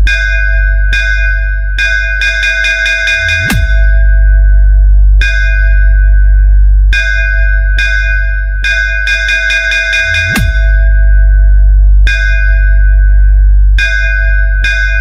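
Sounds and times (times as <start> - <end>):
swooping bass pitch drop: 0.0 - 2.0, 3.1 - 15.0
bell-like synth notes: 0.0 - 15.0
heavy deep bass: 0.0 - 15.0.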